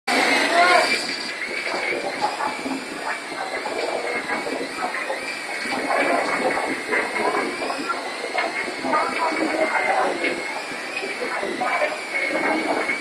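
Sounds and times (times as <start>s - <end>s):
crowd hubbub: 0.1s - 13.0s
toy helicopter motors whining: 0.1s - 13.0s.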